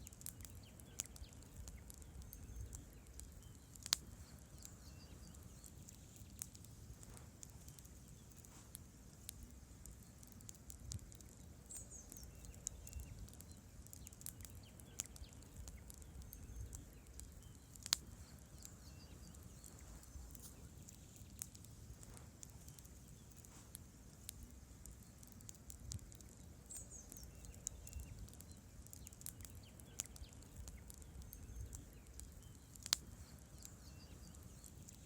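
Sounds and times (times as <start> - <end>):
campfire crackling and popping: 0.0 - 35.0
low rumble of flames: 0.0 - 35.0.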